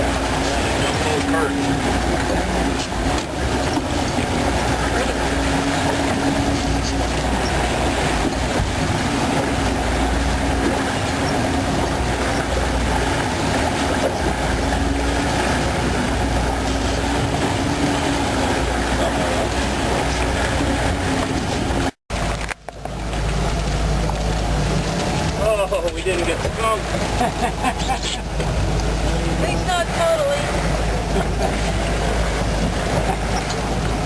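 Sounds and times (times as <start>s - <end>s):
motorboat engine hum: 0.0s - 34.0s
wind and water rushing: 0.0s - 34.0s.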